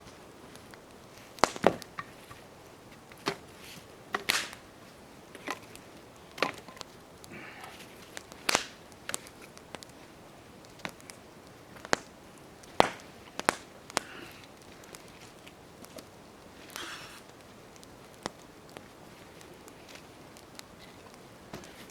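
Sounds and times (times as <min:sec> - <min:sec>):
campfire crackling and popping: 0:00.0 - 0:21.9
faint steady hiss: 0:00.0 - 0:21.9.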